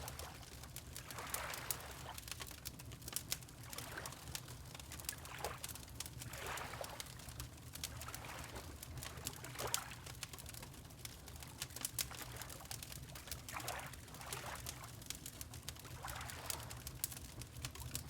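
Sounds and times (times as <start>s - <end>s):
fire crackling and popping: 0.0s - 6.4s, 7.0s - 13.6s, 14.6s - 18.0s.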